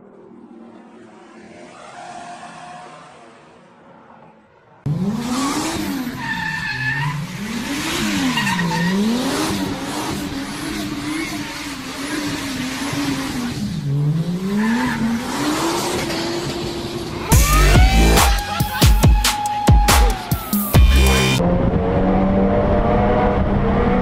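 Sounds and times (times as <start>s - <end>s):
car engine revving: 0.1s - 18.8s, 20.1s - 24.0s.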